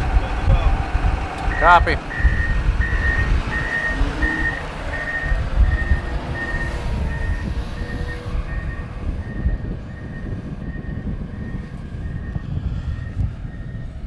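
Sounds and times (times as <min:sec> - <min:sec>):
backup alarm beeping: 0:00.0 - 0:14.0
low engine rumble: 0:00.0 - 0:14.0.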